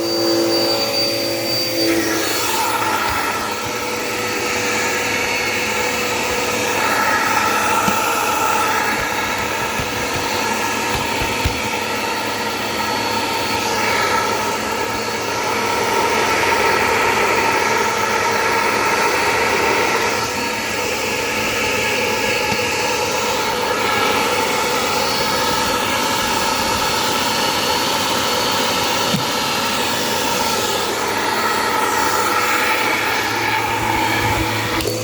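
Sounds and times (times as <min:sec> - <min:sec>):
vacuum cleaner running: 0:00.0 - 0:35.0.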